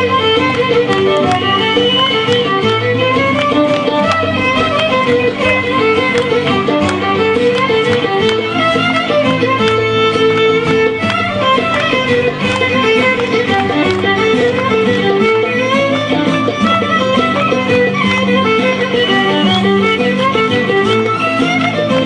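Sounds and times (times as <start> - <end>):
plucked-string chords: 0.0 - 22.0
violin melody: 0.0 - 22.0.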